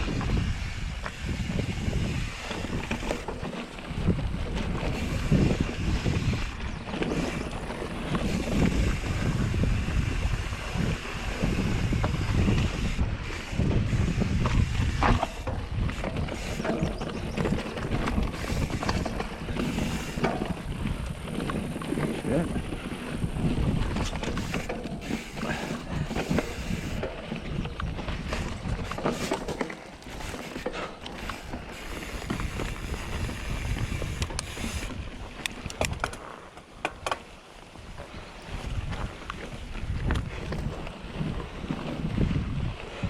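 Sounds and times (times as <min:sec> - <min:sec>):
wind buffeting microphone: 0:00.0 - 0:36.2, 0:36.8 - 0:43.0
bike clicks and rattles: 0:00.0 - 0:43.0
bike tyre noise: 0:00.0 - 0:43.0.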